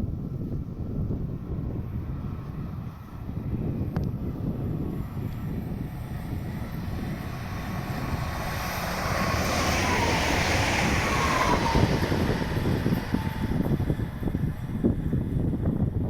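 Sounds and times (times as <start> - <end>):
train passing: 2.0 - 16.0.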